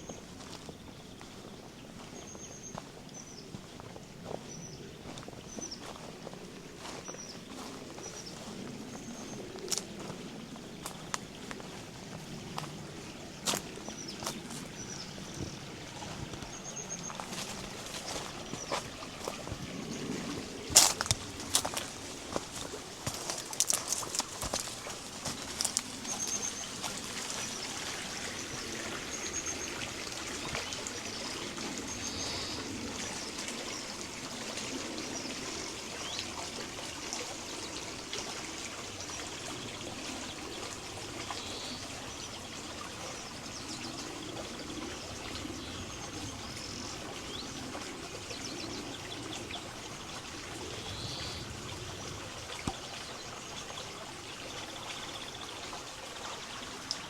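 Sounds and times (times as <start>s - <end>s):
river water trickling over stones: 0.0s - 57.0s.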